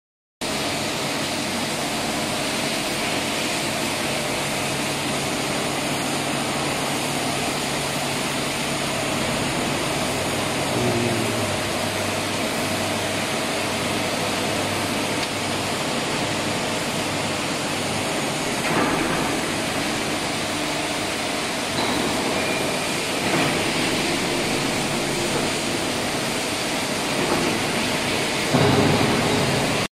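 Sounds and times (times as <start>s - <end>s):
milling machine humming: 0.5s - 29.9s.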